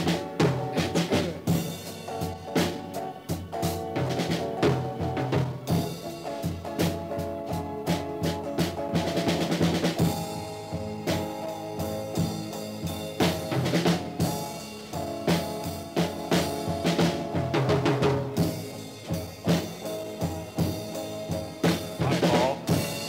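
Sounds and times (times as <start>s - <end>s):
rock drum kit: 0.0s - 23.0s.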